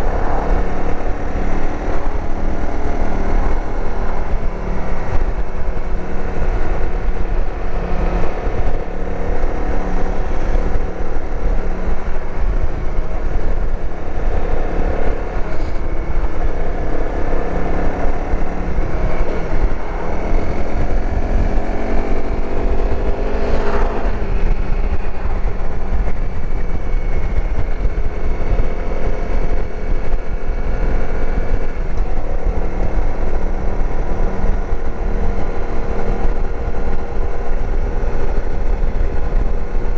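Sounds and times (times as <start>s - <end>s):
dirt bike engine: 0.0s - 39.9s
wind rumble on microphone: 0.0s - 39.9s.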